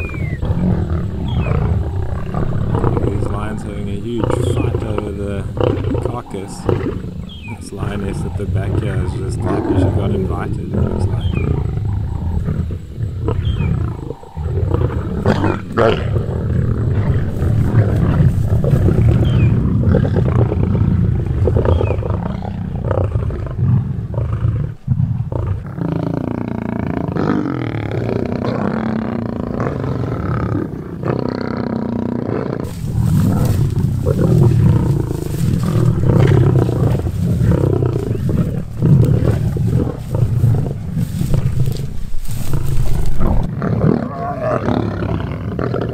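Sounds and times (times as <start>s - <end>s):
lions growling and snarling: 0.0s - 45.9s.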